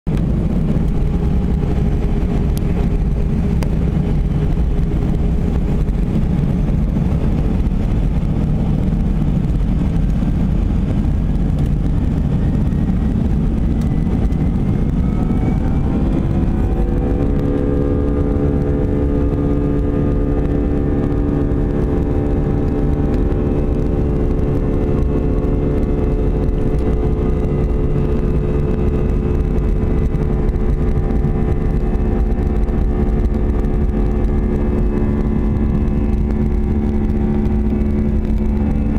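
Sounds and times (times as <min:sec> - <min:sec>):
jet engine low rumble: 0:00.0 - 0:38.9
jet engines spooling up: 0:00.1 - 0:38.9.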